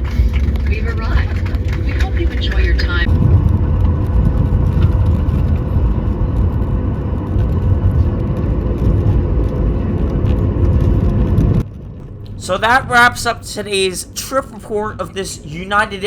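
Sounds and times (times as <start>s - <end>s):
aircraft cabin low rumble: 0.0s - 16.0s
faint steady hum: 0.0s - 16.0s.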